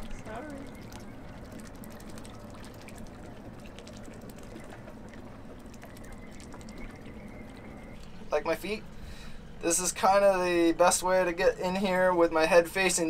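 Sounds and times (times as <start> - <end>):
water lapping and trickling: 0.0 - 13.0.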